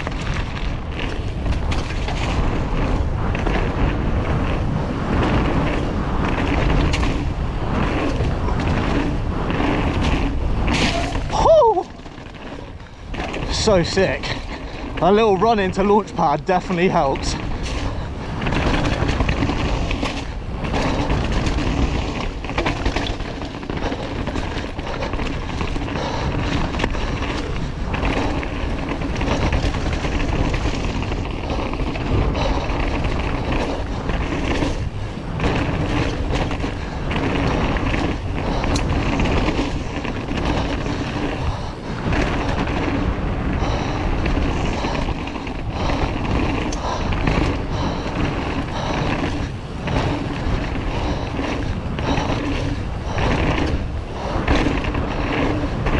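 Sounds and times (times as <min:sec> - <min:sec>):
bike rattling: 0:00.0 - 0:55.9
bike tyre noise: 0:00.0 - 0:55.9
wind rushing over microphone: 0:00.0 - 0:55.9.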